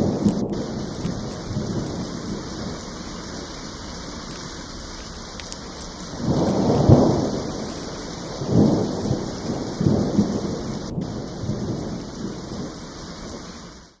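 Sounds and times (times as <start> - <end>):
rolling thunder: 0.0 - 3.5, 5.4 - 13.6
steady rain: 0.0 - 14.0.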